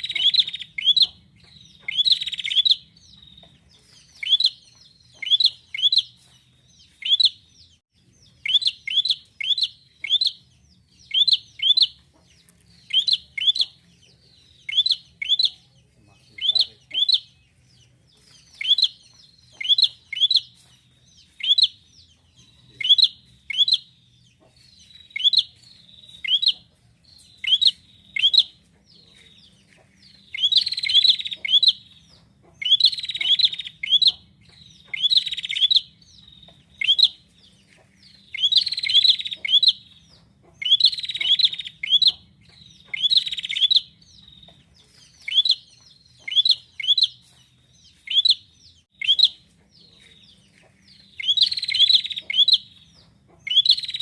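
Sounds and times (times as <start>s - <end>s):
buzzy bird chatter: 0.0s - 54.0s.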